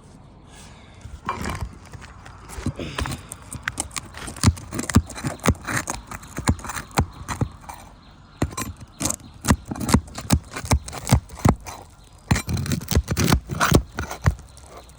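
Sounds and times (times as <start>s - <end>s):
knocks and scrapes on roof shingles: 1.0s - 14.9s.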